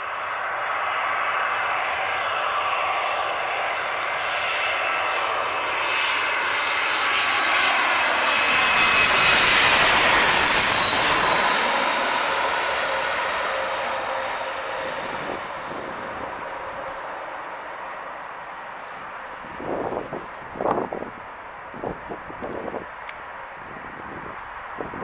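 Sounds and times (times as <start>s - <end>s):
jet airliner passing: 0.0s - 25.0s.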